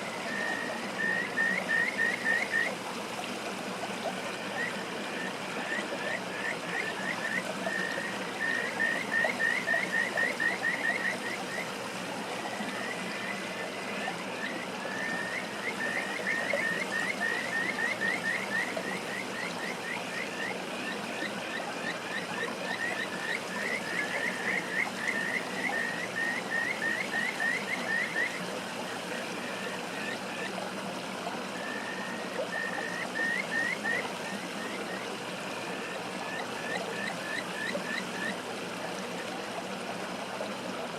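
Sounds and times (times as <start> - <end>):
frogs calling: 0.0 - 2.8, 4.1 - 38.5
rushing stream: 0.0 - 40.9.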